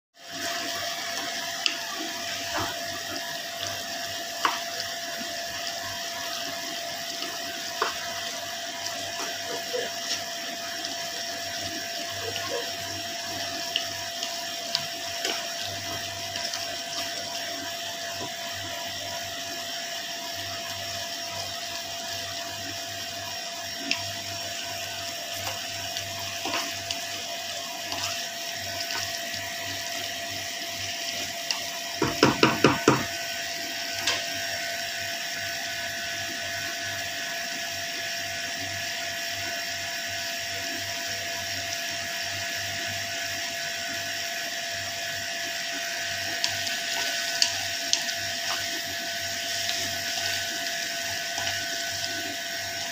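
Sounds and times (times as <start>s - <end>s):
food sizzling in a frying pan: 0.2s - 52.9s.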